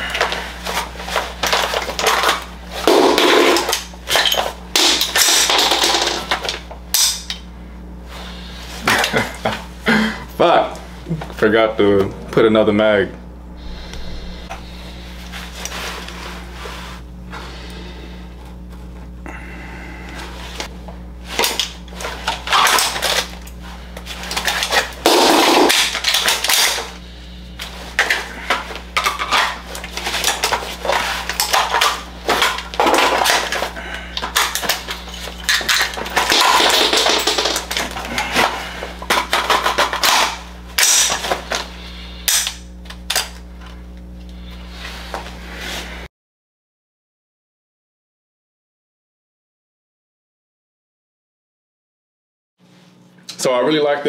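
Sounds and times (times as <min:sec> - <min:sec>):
steady low hum: 0:00.0 - 0:46.1.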